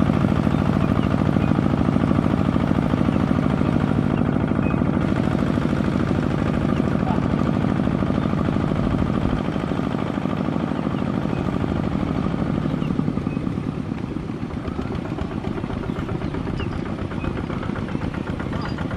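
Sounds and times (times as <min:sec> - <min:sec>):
diesel tractor engine running: 0:00.0 - 0:18.9.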